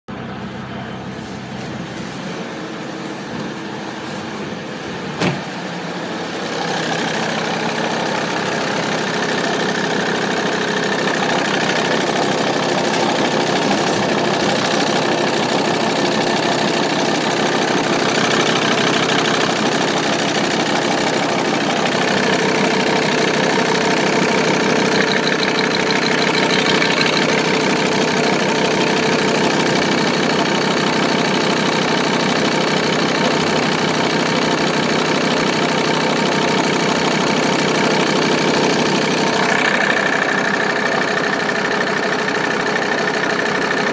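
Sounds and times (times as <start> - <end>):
diesel engine idling: 0.1 - 43.9.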